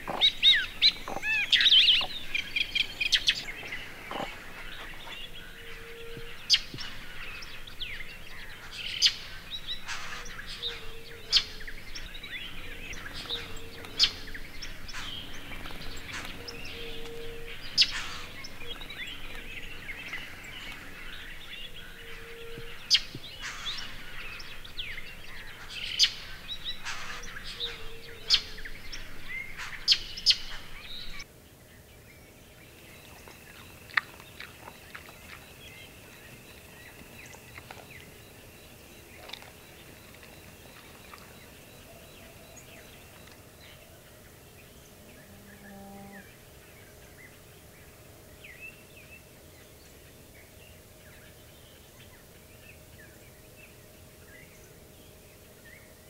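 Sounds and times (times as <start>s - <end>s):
wild birds calling and chirping: 0.0s - 56.0s.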